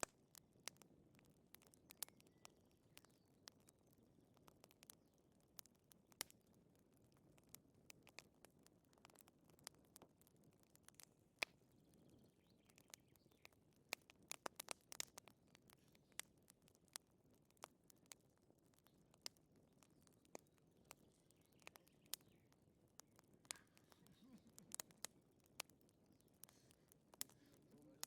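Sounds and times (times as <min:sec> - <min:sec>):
faint low hiss: 0:00.0 - 0:28.0
wood fire pops and snaps: 0:00.0 - 0:28.0.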